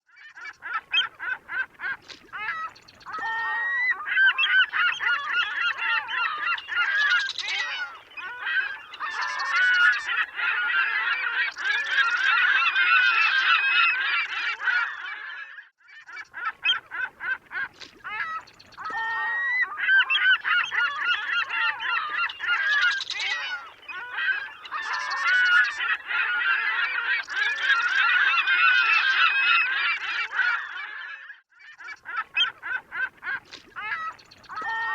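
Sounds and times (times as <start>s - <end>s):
gulls calling: 0.4s - 15.0s, 16.1s - 31.0s, 31.8s - 34.9s.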